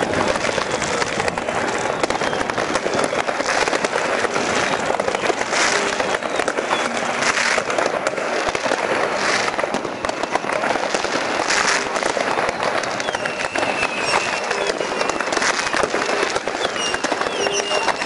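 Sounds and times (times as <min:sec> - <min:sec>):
fireworks crackling bangs: 0:00.0 - 0:18.0
fireworks hissing: 0:00.0 - 0:18.0.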